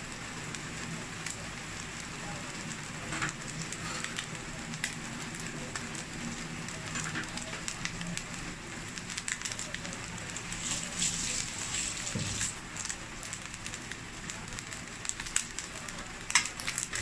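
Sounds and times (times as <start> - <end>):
rice sizzling in oil: 0.0 - 17.0.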